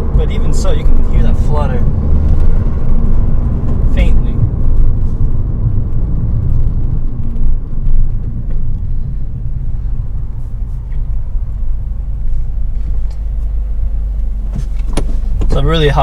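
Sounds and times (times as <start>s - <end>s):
car engine and exhaust rumble: 0.0s - 16.0s.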